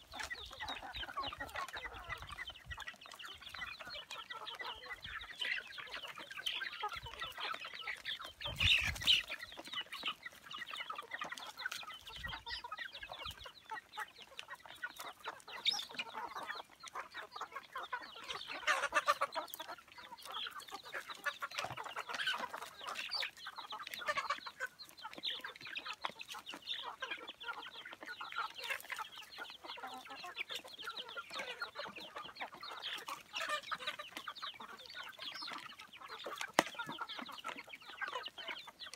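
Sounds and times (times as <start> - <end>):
chicks clucking and chirping: 0.0 - 38.9.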